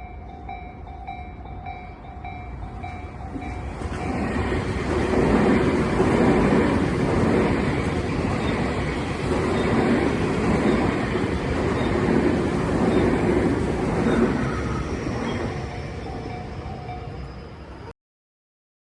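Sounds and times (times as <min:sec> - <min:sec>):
train passing close by: 0:00.0 - 0:17.9.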